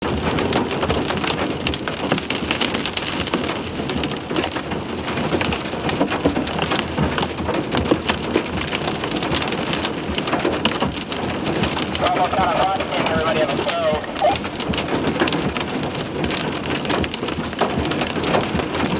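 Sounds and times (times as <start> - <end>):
hail and rain pounding on vehicle: 0.0 - 18.9.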